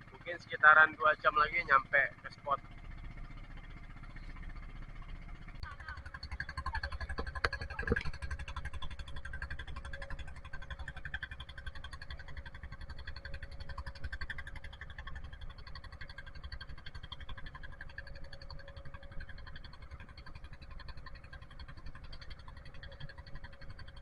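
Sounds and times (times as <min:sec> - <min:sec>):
diesel boat engine chugging: 0:00.0 - 0:24.0.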